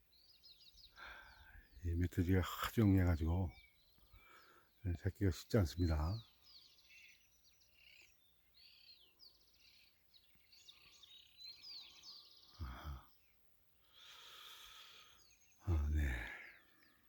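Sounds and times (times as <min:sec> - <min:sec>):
small birds chirping and trilling: 0:00.0 - 0:17.0.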